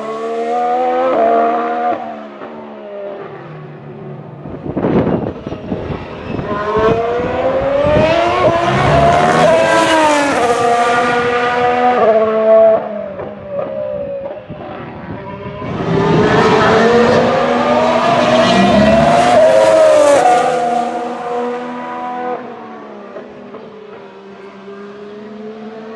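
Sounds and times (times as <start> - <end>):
racing car engine at high revs: 0.0 - 25.9.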